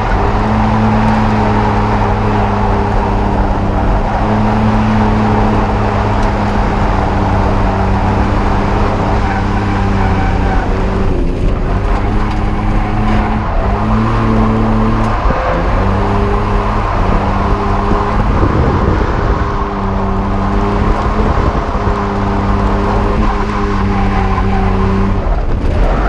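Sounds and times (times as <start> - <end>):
car engine at high revs: 0.0 - 26.0
exhaust noise: 0.0 - 26.0.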